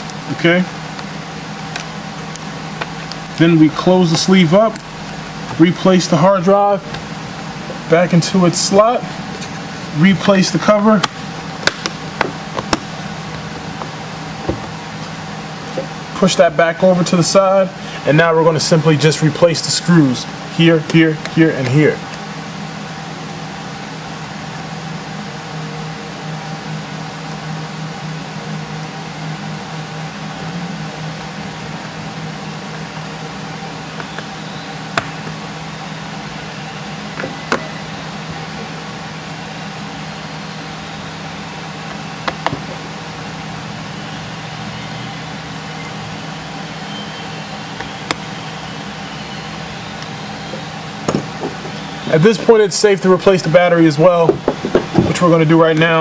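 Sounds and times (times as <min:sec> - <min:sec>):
low background hum with hiss: 0:00.0 - 0:56.0.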